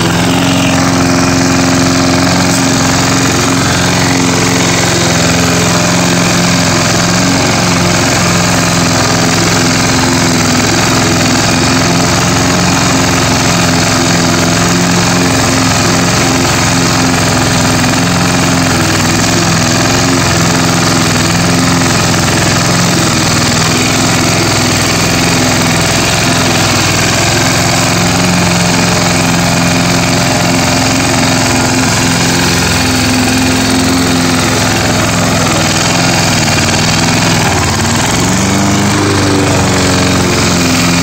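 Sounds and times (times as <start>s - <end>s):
lawn mower engine cutting grass: 0.0s - 41.0s.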